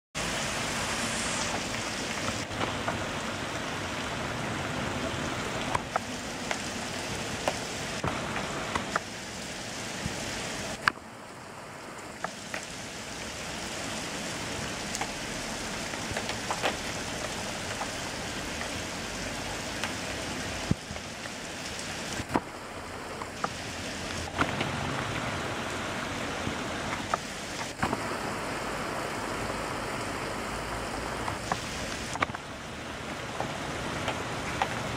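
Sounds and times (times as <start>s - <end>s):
close raindrop hits: 0.2s - 11.1s, 11.9s - 32.6s
heavy rain on paving and leaves: 0.2s - 34.9s.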